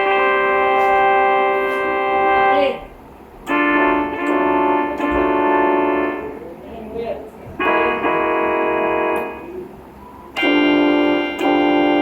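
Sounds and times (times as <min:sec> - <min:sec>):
train horn blasts: 0:00.0 - 0:06.4, 0:07.6 - 0:09.6, 0:10.3 - 0:12.0.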